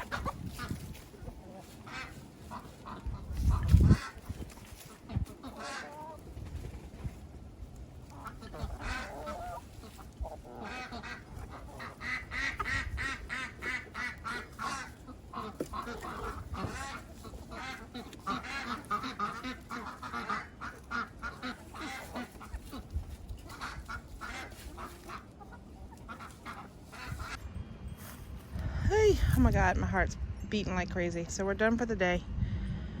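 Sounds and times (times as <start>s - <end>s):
ducks quacking: 0.0s - 7.2s, 7.8s - 27.4s.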